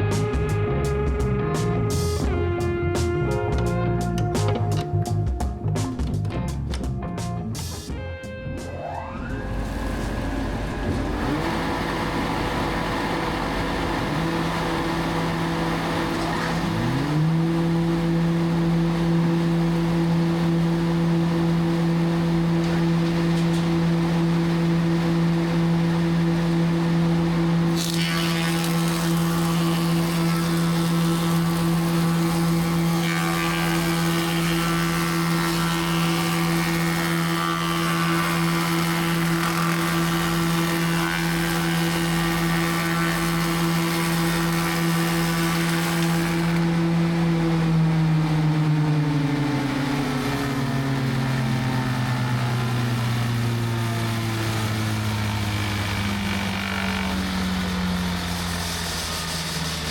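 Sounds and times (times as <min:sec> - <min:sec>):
wood profiling machine humming: 0:08.8 - 0:59.9.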